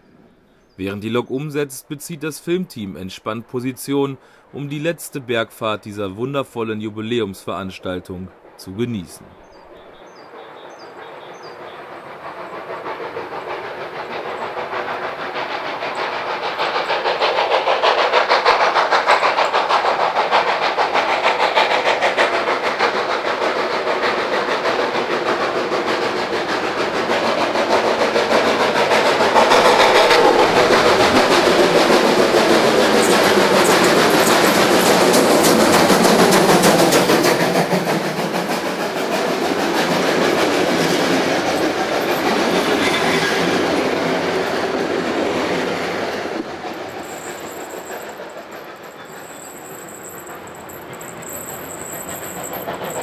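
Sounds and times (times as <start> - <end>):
steam locomotive exhaust beats: 0.0 - 53.0
rail clatter: 8.3 - 53.0.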